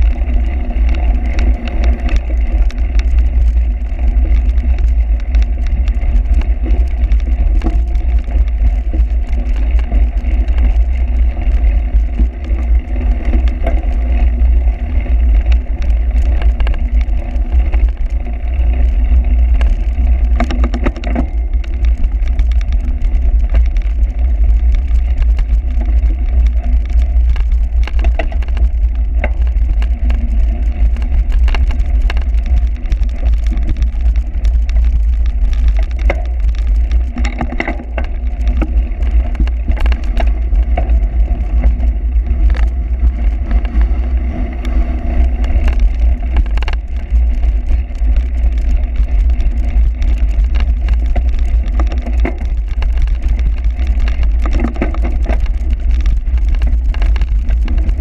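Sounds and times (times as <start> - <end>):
bicycle rattles and clicks: 0.0 - 58.0
wind rumble on microphone: 0.0 - 58.0.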